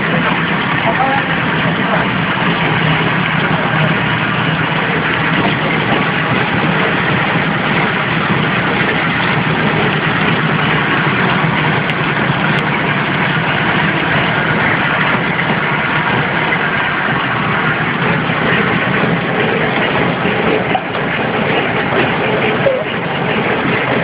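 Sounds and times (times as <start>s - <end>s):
wrapping machine humming: 0.0s - 24.0s.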